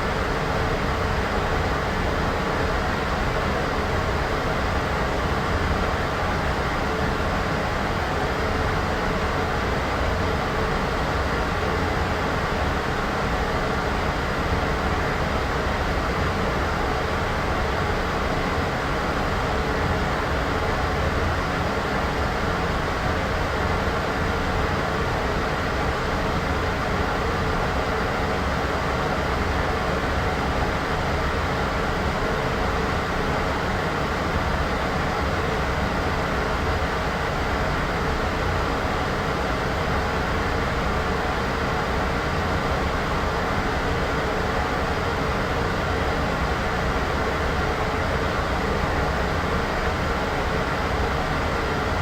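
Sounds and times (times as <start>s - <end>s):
deep rumbling white noise: 0.0s - 52.0s.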